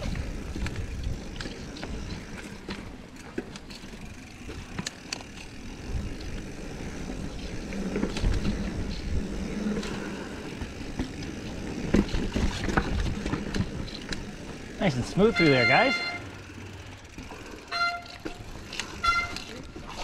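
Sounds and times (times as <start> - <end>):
bike chain and frame rattling: 0.0 - 20.0
bike tyres rumbling on dirt: 0.0 - 20.0.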